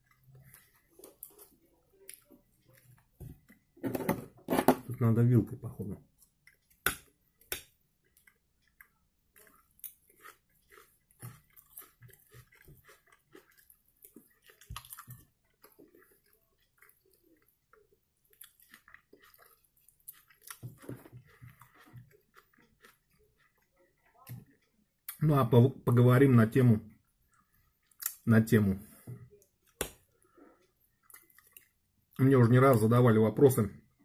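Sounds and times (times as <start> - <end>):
wet chewing: 0.0 - 3.8, 6.0 - 25.2, 26.9 - 28.4, 29.3 - 32.8.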